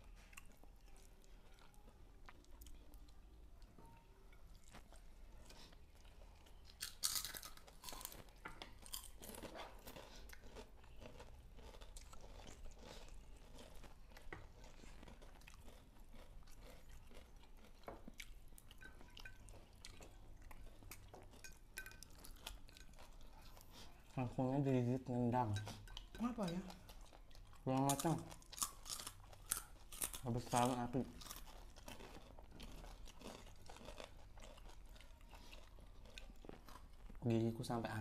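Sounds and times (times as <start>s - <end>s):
chewing and crunching food: 0.0s - 38.0s.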